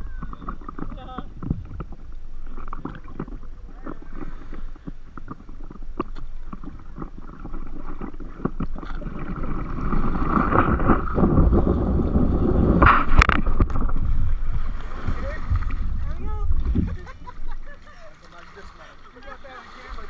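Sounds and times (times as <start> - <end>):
seawater sloshing and splashing: 0.0 - 20.0.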